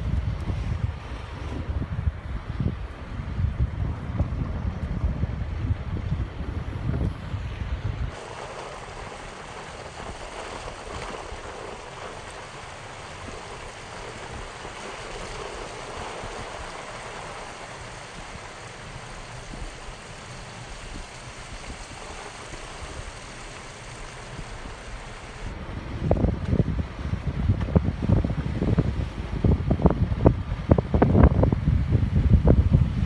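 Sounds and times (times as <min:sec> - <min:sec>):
tyres rolling through slush: 0:00.0 - 0:33.0.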